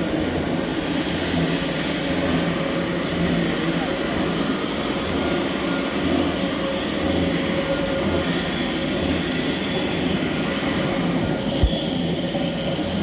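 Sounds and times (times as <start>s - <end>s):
large machinery droning: 0.0s - 13.0s.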